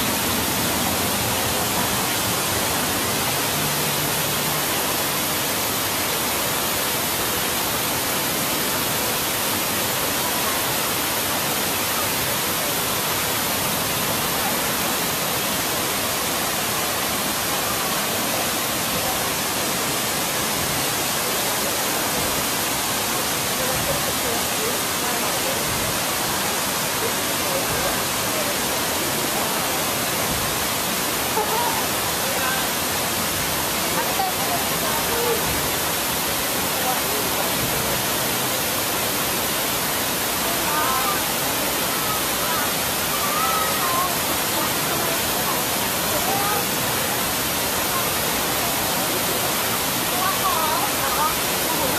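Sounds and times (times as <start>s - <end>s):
faint voices: 0.0s - 51.9s
running water: 0.0s - 51.9s.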